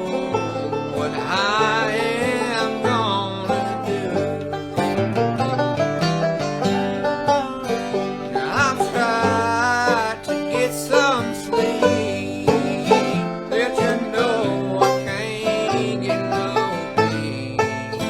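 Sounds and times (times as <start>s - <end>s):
banjo: 0.0s - 18.0s
bluegrass string band: 0.0s - 18.0s
guitar: 0.0s - 18.0s.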